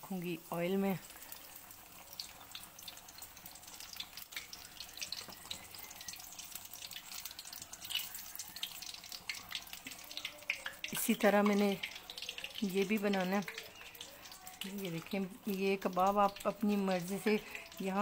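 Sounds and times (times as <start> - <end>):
cutlet deep-frying in hot oil: 0.0 - 18.0.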